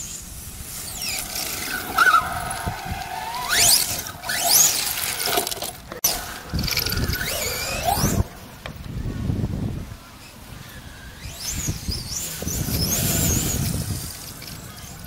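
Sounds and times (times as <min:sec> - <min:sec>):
toy truck rumbling on ground: 0:00.0 - 0:08.4, 0:10.7 - 0:15.0.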